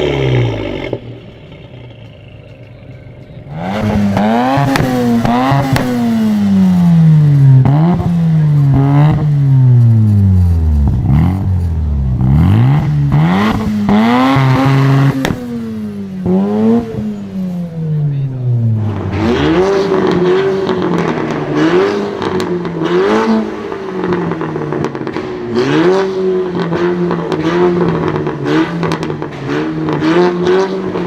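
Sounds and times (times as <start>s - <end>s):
car engine revving: 0.0s - 31.0s
exhaust cracks: 0.0s - 31.0s.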